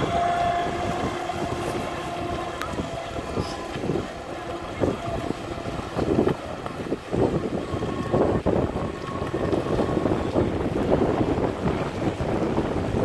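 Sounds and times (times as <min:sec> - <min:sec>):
choppy water: 0:00.0 - 0:13.0
wind buffeting microphone: 0:00.0 - 0:13.0.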